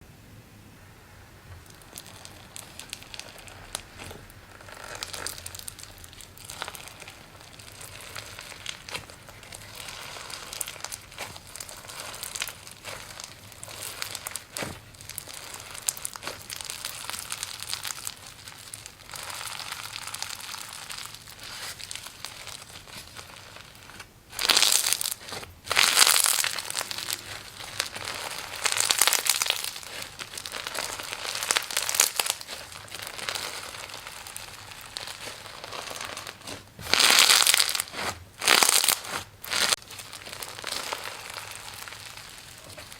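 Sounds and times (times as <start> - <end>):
slime crackling and squishing: 1.1 - 42.9.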